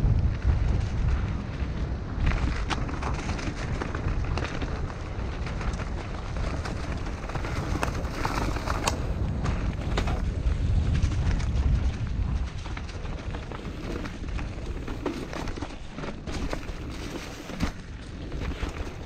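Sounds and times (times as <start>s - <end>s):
bike rattling and clicking: 0.0s - 19.0s
tyres on dirt and rocks: 0.0s - 19.0s
wind buffeting microphone: 0.0s - 19.0s.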